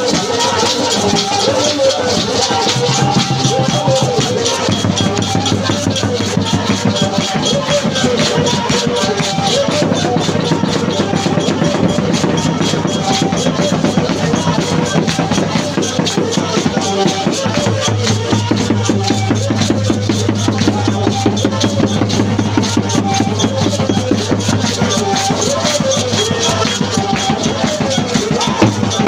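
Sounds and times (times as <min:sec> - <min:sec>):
fast drum-kit beat: 0:00.0 - 0:29.0.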